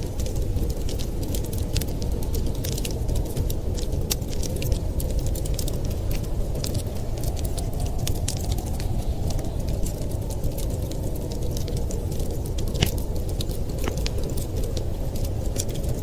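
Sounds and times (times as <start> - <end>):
fire pops and snaps: 0.0 - 16.0
low fire rumble: 0.0 - 16.0
wood fire crackling: 0.0 - 16.0.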